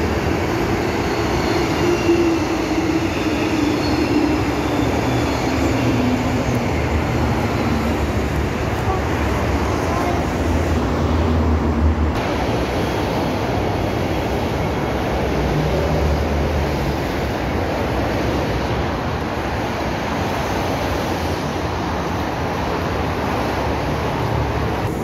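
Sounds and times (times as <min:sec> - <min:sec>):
rushing road traffic: 0:00.0 - 0:25.0.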